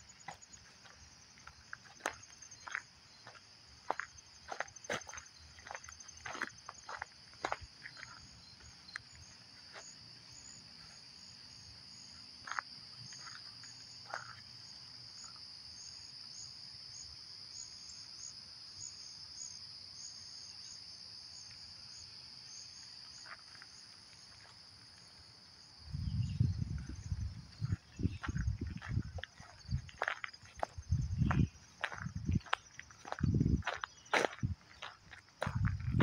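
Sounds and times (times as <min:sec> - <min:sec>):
insect chirps: 0:00.0 - 0:36.0
insects chorus: 0:00.0 - 0:36.0.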